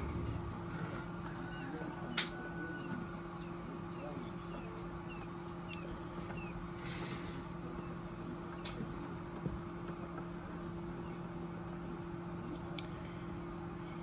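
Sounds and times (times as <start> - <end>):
incubator electric hum: 0.0 - 14.0.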